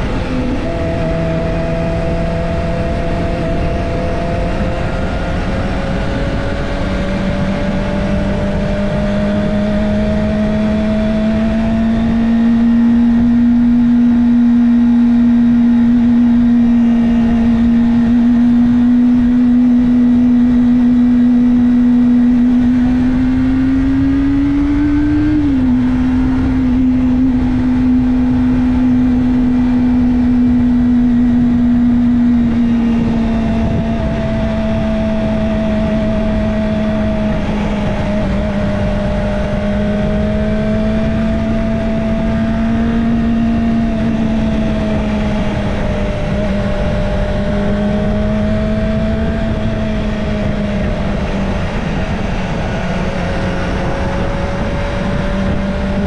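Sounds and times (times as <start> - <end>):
motorcycle engine cruising: 0.0 - 56.0
wind rush: 0.0 - 56.0.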